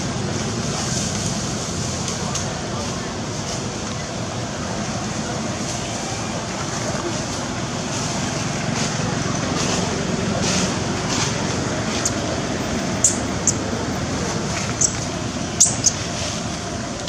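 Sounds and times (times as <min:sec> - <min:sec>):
steady outdoor background noise: 0:00.0 - 0:17.0.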